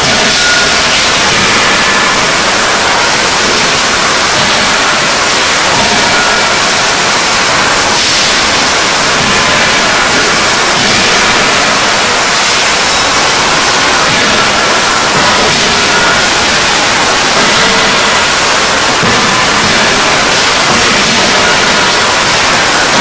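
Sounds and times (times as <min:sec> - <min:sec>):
faint machine whines: 0:00.0 - 0:23.0
forging shop din: 0:00.0 - 0:23.0.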